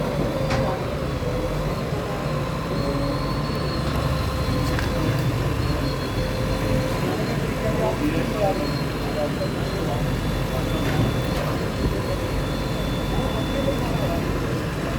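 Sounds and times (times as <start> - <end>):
bulldozer engine rumbling: 0.0 - 14.9.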